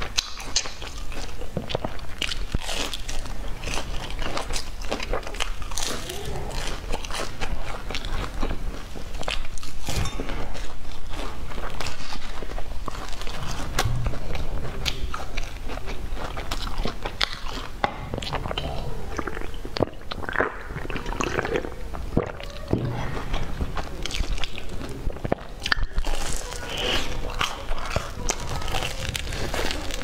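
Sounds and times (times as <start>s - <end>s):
chewing bread: 0.0s - 30.0s.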